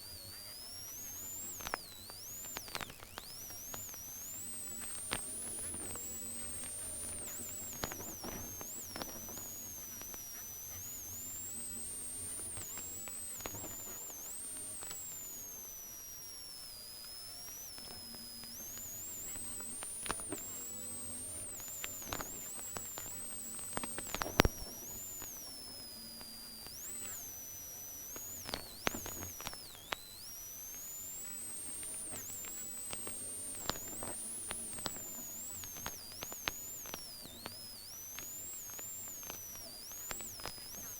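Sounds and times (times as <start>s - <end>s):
faint hum: 0.0s - 40.9s
high-pitched whining tones: 0.0s - 40.9s
clicks and pops: 0.5s - 40.9s.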